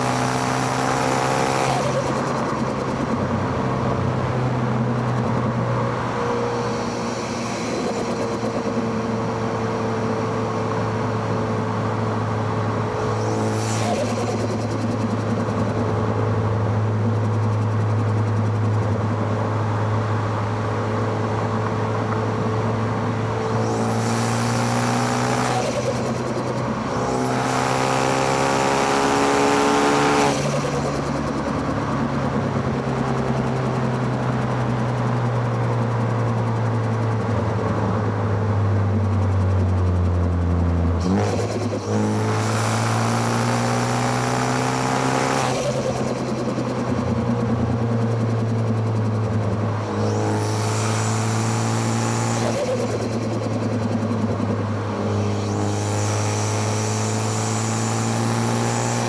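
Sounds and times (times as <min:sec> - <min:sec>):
car engine and exhaust: 0:00.0 - 0:59.0.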